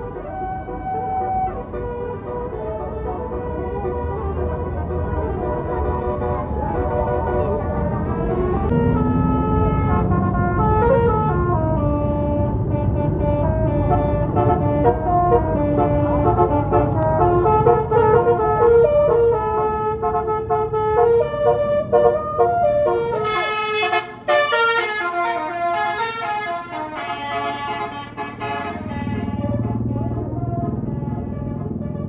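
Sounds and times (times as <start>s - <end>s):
bus engine rumble: 0.0s - 32.0s
bus horn playing a tune: 0.0s - 32.0s.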